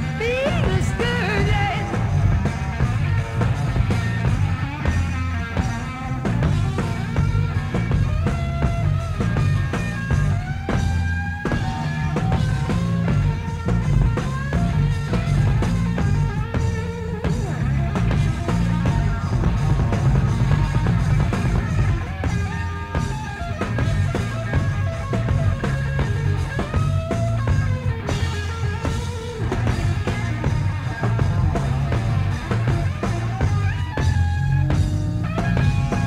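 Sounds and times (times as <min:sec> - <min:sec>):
bass guitar: 0:00.0 - 0:36.0
driving drum kit: 0:00.0 - 0:36.0
electric guitar lead lines: 0:00.0 - 0:36.0.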